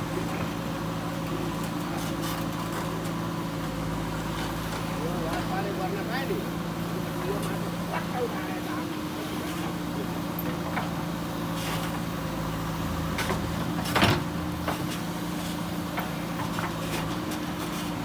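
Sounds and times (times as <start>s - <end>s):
backhoe diesel engine humming: 0.0s - 18.0s.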